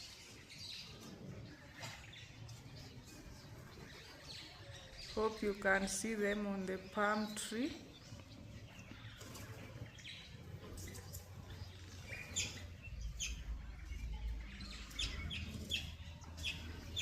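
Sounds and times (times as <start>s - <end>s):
birds chirping sharply: 0.0s - 17.0s.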